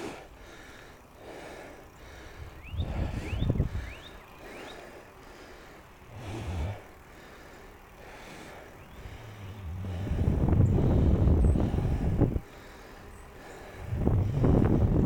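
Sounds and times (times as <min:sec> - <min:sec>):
heavy puffing breaths: 0:00.0 - 0:15.0
low rumble of rolling bike: 0:00.0 - 0:15.0.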